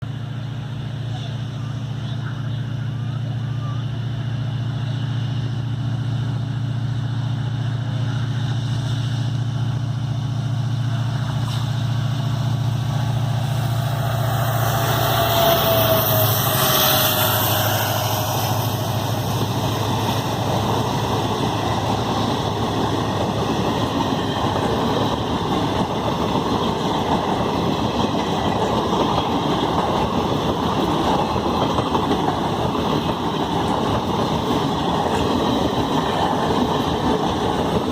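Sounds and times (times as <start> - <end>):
diesel locomotive engine hum: 0.0 - 37.9
train coaches rumbling past: 0.0 - 37.9.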